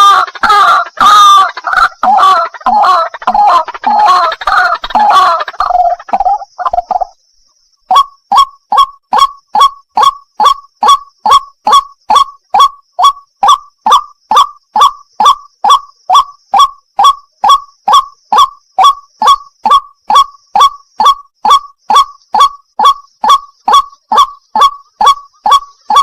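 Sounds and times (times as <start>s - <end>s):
waterhen wak calls: 0.0s - 7.2s, 7.9s - 26.0s.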